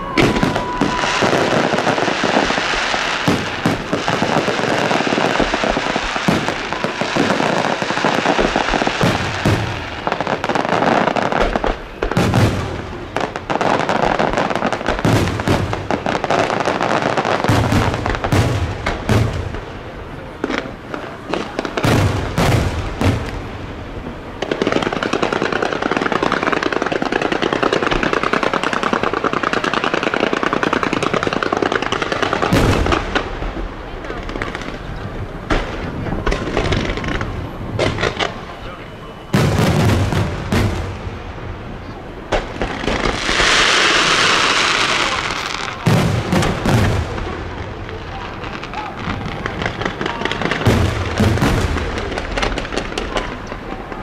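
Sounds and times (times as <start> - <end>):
firework bangs: 0.0 - 54.0
fireworks crackling: 0.0 - 54.0.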